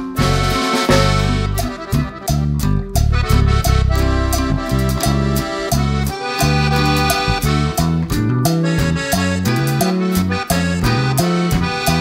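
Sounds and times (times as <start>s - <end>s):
upbeat music with steady beat: 0.0s - 12.0s.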